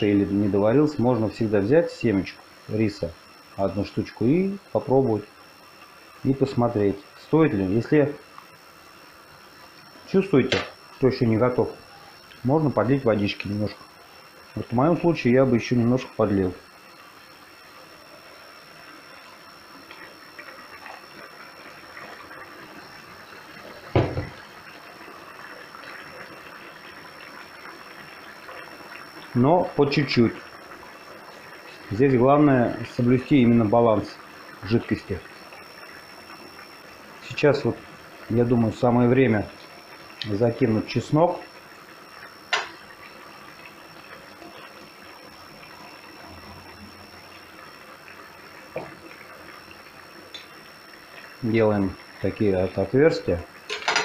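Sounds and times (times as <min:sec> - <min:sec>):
liquid bubbling on hot rice: 0:00.0 - 0:54.0.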